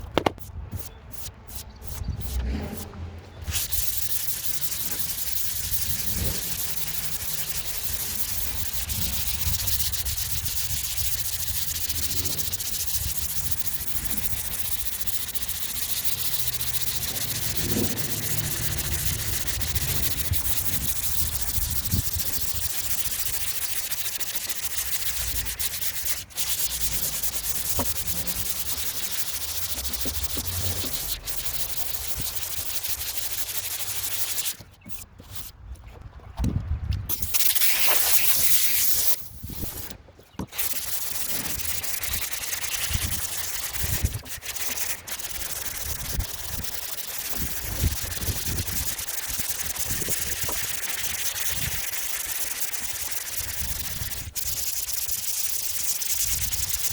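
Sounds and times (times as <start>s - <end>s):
sanding car hood: 1.0s - 35.5s, 40.6s - 56.9s.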